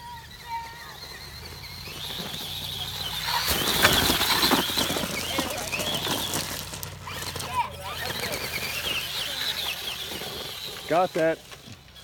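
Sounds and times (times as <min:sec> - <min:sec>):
toy truck motor whining: 0:00.0 - 0:12.0
tyres crunching gravel: 0:00.0 - 0:12.0.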